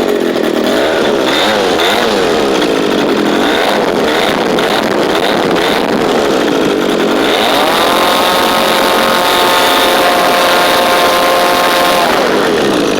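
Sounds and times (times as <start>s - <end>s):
model aircraft engine running: 0.0s - 12.9s.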